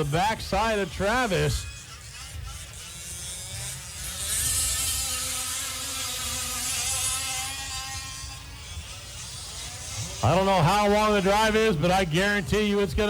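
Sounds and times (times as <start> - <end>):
small gas engines buzzing: 0.0 - 13.0.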